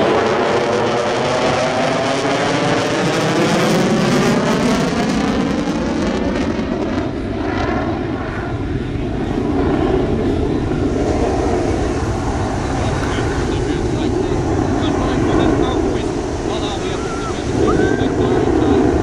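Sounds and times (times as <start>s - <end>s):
jet engines roaring past: 0.0s - 19.0s.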